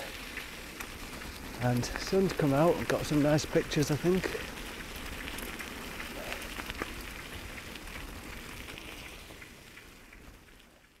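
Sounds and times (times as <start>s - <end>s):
crackling noise: 0.0s - 11.0s.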